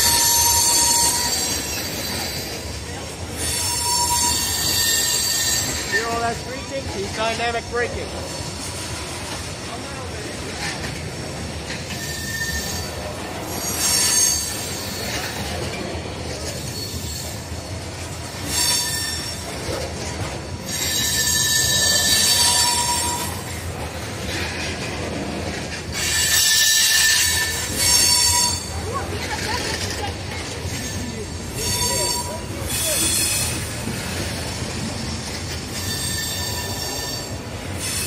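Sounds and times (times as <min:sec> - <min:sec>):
steel wheels squealing: 0:00.0 - 0:09.1, 0:10.6 - 0:38.0
train wheels rumbling on rail: 0:00.0 - 0:38.0.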